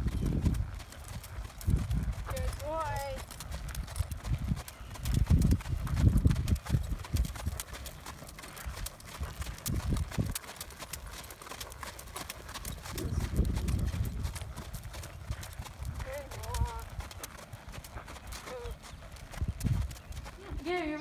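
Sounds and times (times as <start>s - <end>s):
horse hoofbeats on gravel: 0.0s - 21.0s.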